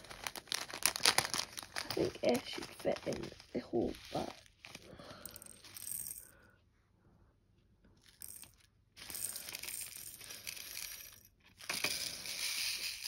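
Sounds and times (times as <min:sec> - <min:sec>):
plastic beads pouring into container: 0:00.0 - 0:06.3, 0:08.0 - 0:13.0.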